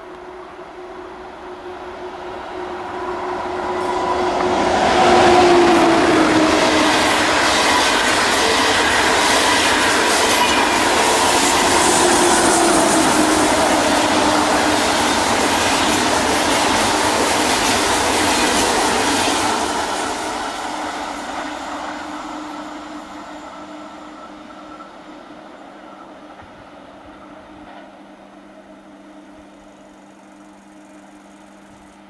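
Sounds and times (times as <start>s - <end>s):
high-speed train passing: 0.0s - 32.0s.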